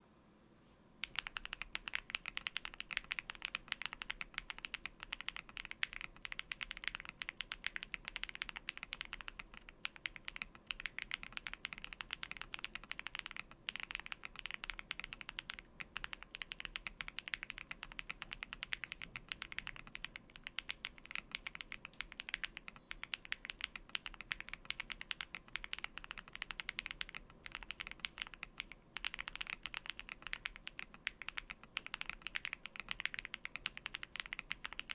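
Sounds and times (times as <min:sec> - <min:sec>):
mechanical keyboard typing: 0:01.0 - 0:34.9.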